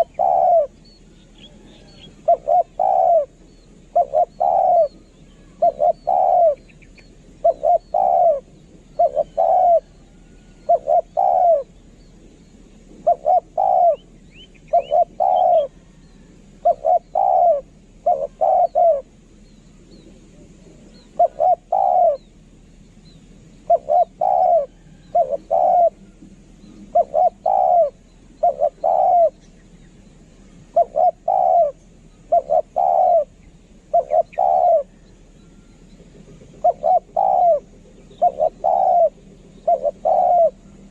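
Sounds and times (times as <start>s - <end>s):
dove cooing: 0.0s - 11.8s, 12.9s - 19.2s, 20.0s - 22.4s, 23.6s - 40.9s.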